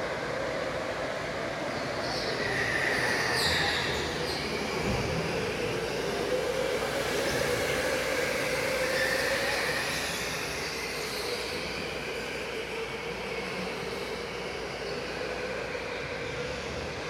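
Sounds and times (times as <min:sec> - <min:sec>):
go-kart motor whine: 0:02.1 - 0:17.0.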